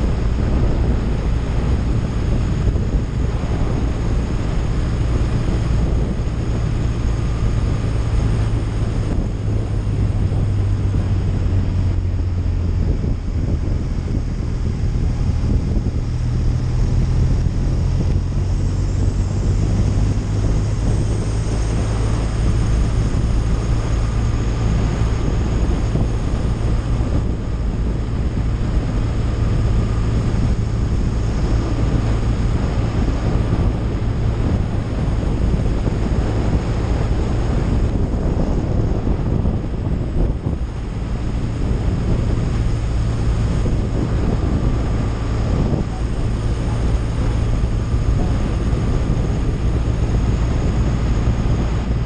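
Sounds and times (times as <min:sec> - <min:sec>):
motorcycle engine hum: 0:00.0 - 0:52.0
wind noise on microphone: 0:00.0 - 0:52.0.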